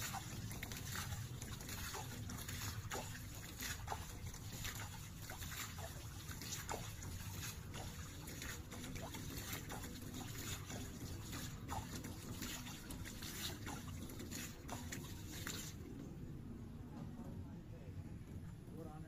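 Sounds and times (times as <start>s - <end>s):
water trickling and splashing: 0.0s - 16.2s.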